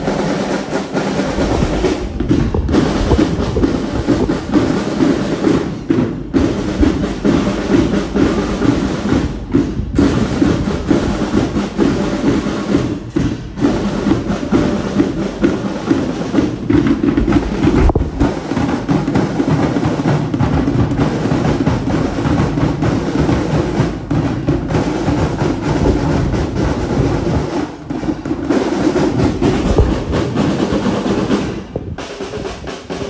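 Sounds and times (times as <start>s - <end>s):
marching band drums: 0.0s - 33.0s.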